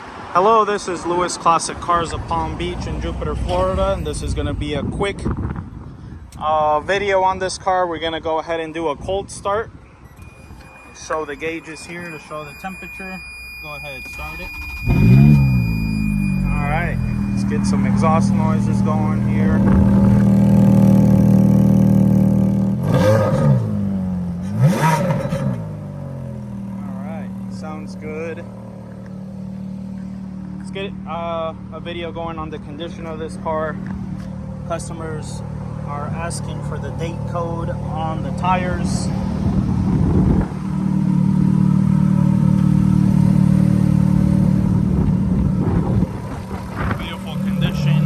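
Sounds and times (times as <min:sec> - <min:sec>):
car engine idling and revving: 0:00.0 - 0:06.5, 0:10.0 - 0:48.0.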